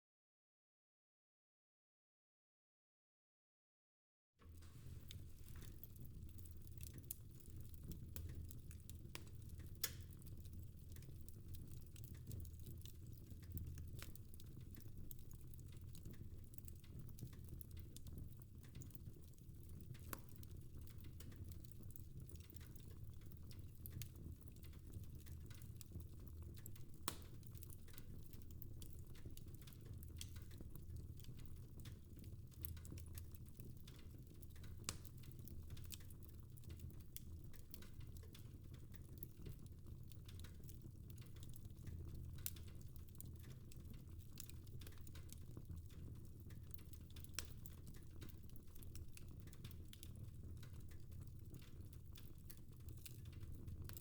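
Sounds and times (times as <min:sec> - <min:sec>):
fire crackling and popping: 0:04.5 - 0:54.0.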